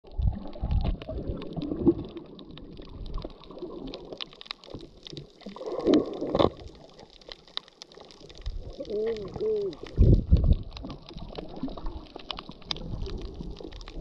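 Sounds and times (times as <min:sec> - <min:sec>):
underwater low rumbling: 0:00.0 - 0:14.0.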